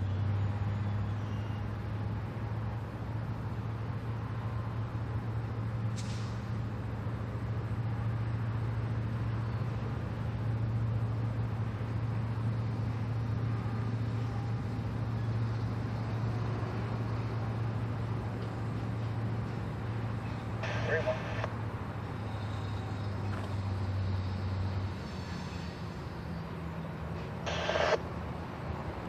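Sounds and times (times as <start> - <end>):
locomotive diesel engine droning: 0.0 - 29.0.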